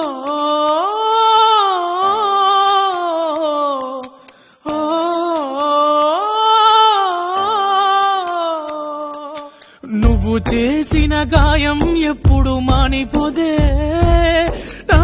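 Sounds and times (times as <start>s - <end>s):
person singing wordless melody: 0.0s - 15.0s.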